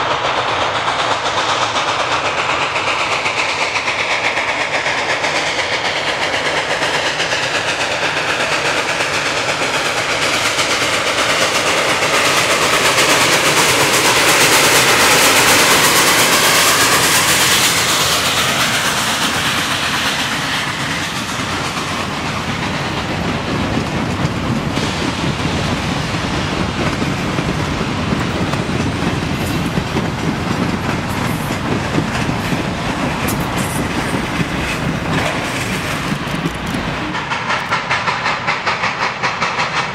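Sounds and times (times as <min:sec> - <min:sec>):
steam locomotive running past: 0:00.0 - 0:39.9
wheels clicking over rail joints: 0:00.5 - 0:39.9.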